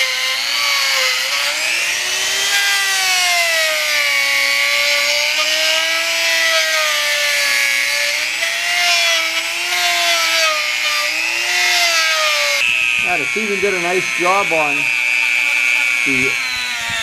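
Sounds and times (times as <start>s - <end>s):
rotary tool motor whine: 0.0s - 17.0s.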